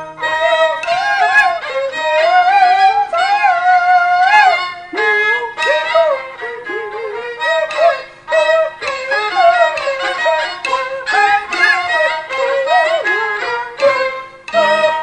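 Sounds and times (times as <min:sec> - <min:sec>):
fiddle playing opera melody: 0:00.0 - 0:15.0.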